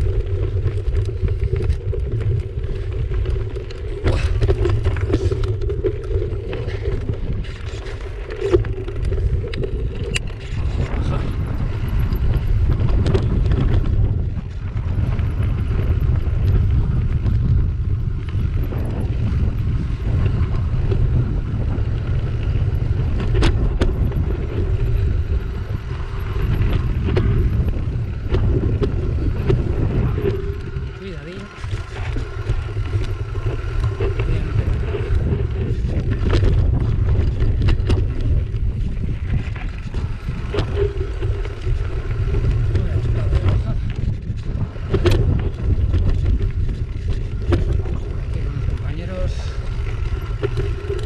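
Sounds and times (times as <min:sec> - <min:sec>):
tyres on loose stones: 0:00.0 - 0:15.7, 0:18.6 - 0:51.0
bike rattling: 0:00.0 - 0:51.0
wind buffeting microphone: 0:00.0 - 0:51.0.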